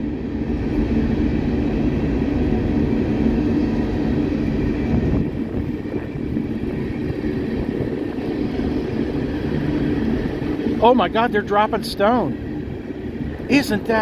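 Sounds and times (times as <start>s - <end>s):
hopper cars rolling past: 0.0s - 14.0s.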